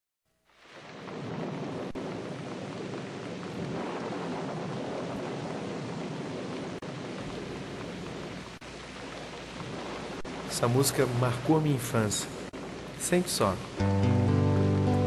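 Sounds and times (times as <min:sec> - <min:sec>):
rain falling on a roof: 0:00.3 - 0:15.0.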